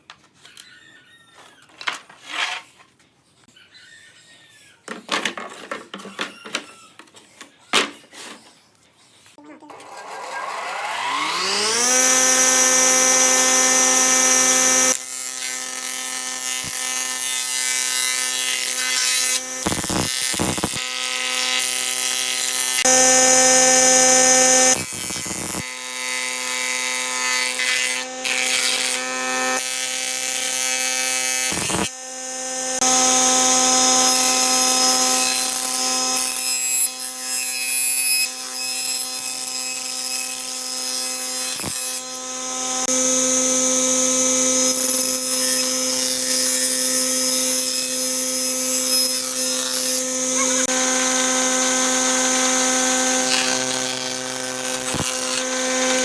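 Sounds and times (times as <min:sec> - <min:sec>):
power tool motor whine: 0:09.7 - 0:56.0
wood cutting rasp: 0:10.6 - 0:56.0.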